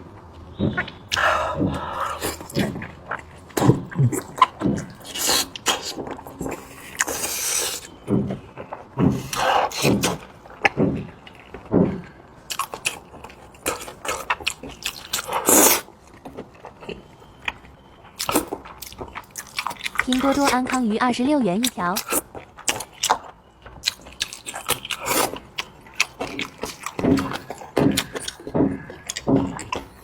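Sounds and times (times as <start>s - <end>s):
chewing and smacking: 0.2s - 20.9s, 21.6s - 30.0s.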